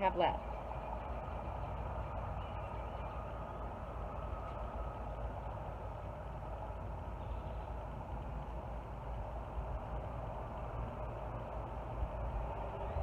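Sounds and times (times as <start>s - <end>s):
faint thin steady tone: 0.0s - 13.0s
low background rumble: 0.0s - 13.0s.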